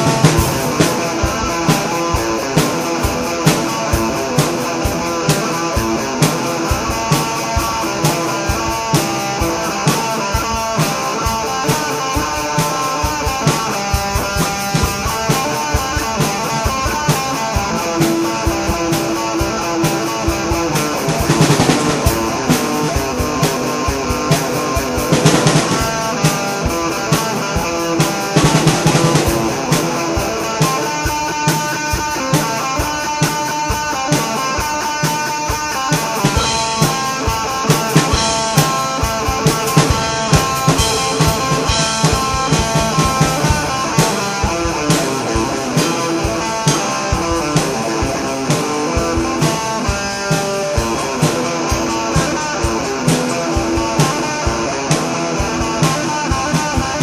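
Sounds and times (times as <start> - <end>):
guitar: 0.0 - 57.0
rapid drum hits: 0.0 - 57.0.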